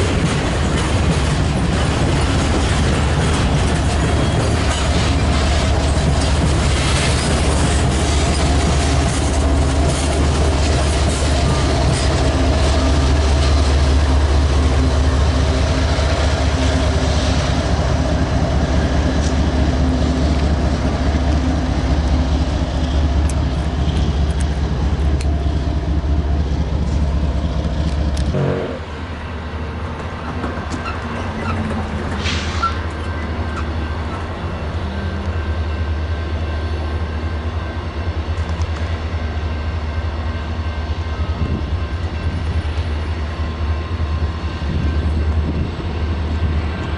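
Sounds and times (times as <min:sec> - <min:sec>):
diesel locomotive engine drone: 0:00.0 - 0:46.9
train cars rumbling on rails: 0:00.0 - 0:46.9.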